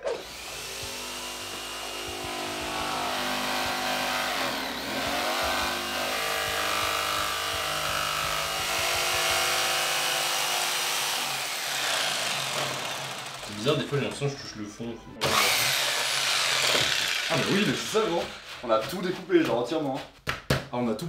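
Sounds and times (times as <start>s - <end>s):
jigsaw cutting: 0.0s - 14.1s, 15.2s - 18.7s.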